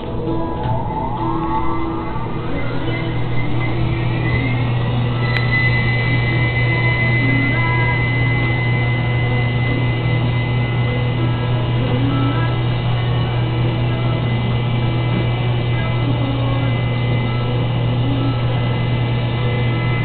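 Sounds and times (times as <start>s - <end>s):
rising drum whine: 0.0s - 20.0s
washer motor hum: 0.0s - 20.0s.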